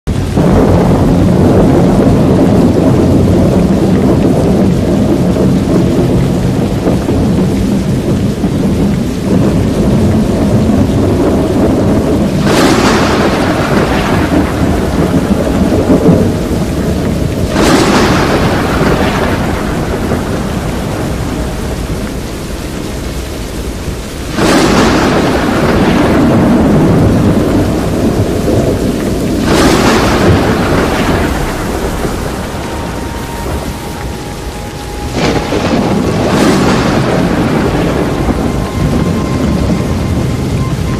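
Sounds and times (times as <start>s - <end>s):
deep storm rumble: 0.0s - 40.9s
rain: 0.0s - 40.9s
thunder crashes: 0.1s - 40.9s.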